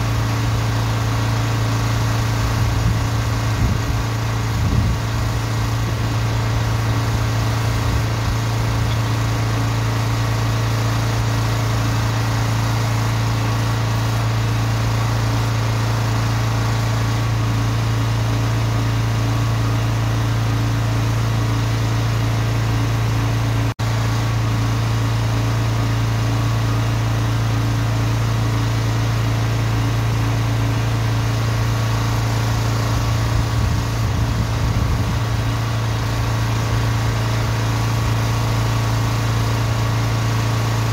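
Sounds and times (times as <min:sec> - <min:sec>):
drain jetter engine running: 0:00.0 - 0:40.9.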